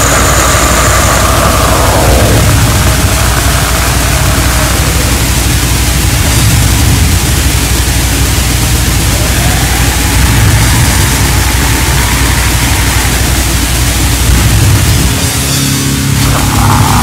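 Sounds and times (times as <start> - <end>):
distorted guitar: 0.0 - 17.0
drum and bass rumble: 0.0 - 17.0.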